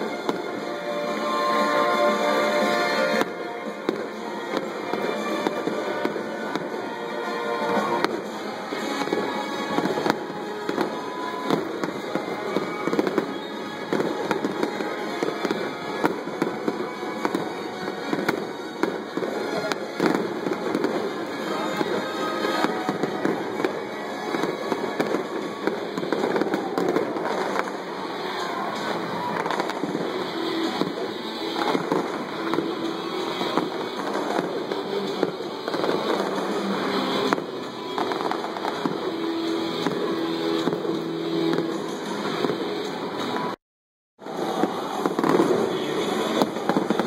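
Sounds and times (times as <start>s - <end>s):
fireworks crackling and popping: 0.0s - 43.6s, 44.2s - 47.0s.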